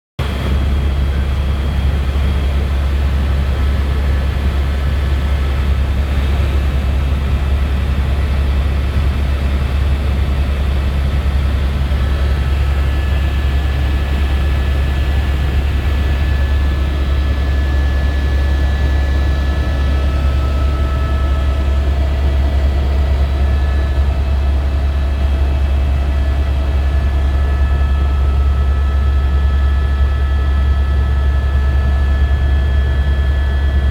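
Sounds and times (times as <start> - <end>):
helicopter engine and rotor drone: 0.2 - 33.9.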